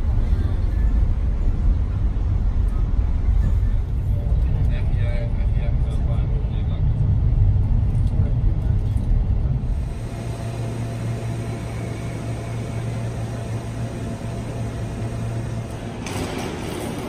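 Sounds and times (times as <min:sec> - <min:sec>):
low hum of train machinery: 0:00.0 - 0:17.0.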